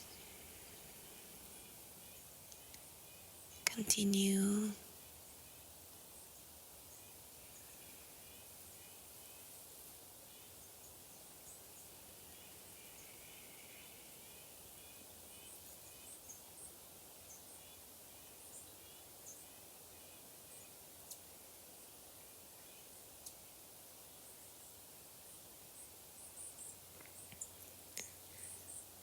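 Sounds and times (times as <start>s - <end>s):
small birds chirping: 0.0s - 29.0s
steady hiss: 0.0s - 29.0s.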